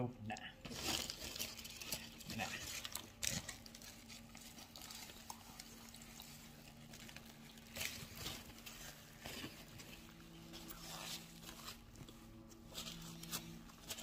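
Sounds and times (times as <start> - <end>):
steady low hum: 0.0 - 14.0
paper wrapper crinkling: 0.6 - 14.0
faint chewing: 1.1 - 14.0.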